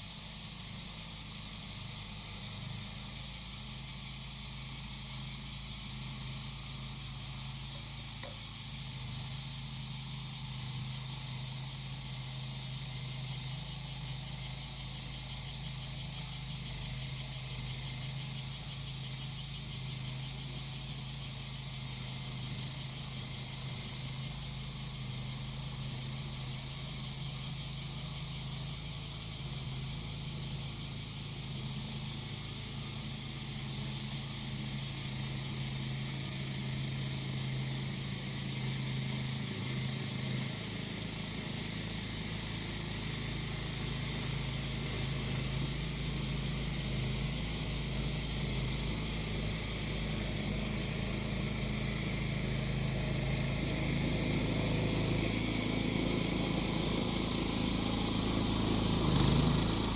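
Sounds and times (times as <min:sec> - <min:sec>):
cicadas buzzing: 0:00.0 - 0:59.9
small engine running: 0:00.0 - 0:59.9.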